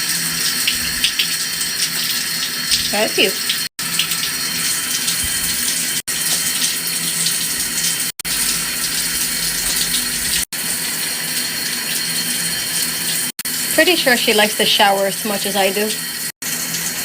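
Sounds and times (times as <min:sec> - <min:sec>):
shower running: 0:00.0 - 0:17.0.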